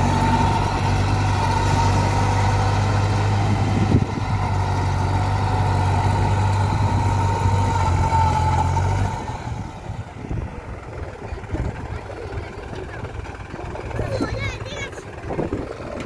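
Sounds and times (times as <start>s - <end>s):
tiller whine: 0.0s - 16.0s
tractor diesel engine running: 0.0s - 16.0s.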